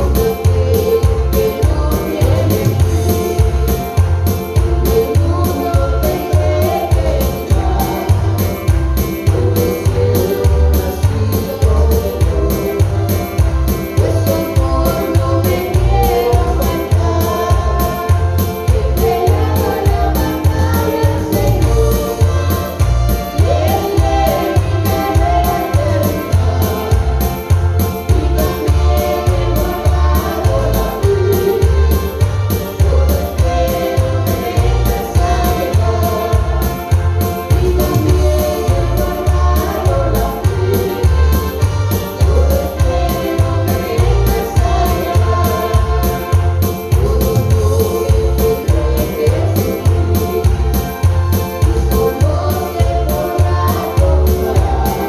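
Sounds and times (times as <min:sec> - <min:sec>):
band with heavy bass: 0:00.0 - 0:55.0
person singing: 0:00.0 - 0:55.0.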